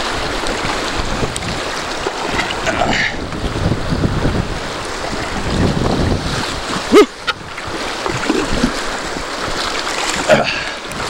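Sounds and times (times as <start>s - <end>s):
river rapids rushing: 0.0s - 11.0s
wind buffeting microphone: 0.0s - 11.0s.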